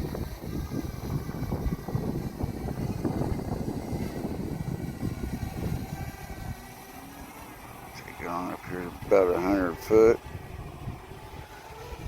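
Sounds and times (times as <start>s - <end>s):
gusty wind on microphone: 0.0s - 12.0s.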